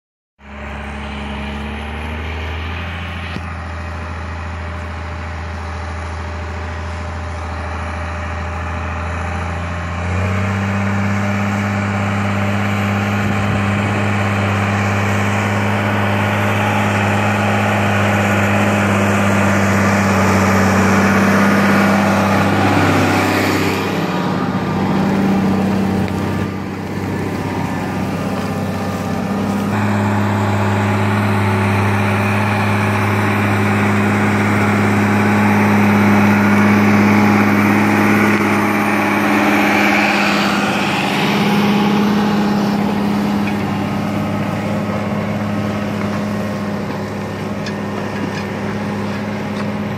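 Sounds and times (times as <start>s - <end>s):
tractor diesel engine droning: 0.4s - 49.9s.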